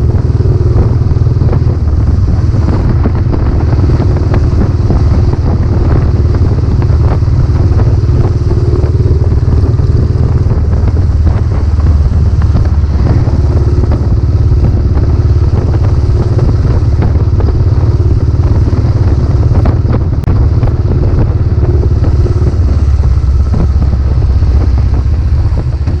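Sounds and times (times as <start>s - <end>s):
motorcycle engine exhaust note: 0.0s - 26.0s.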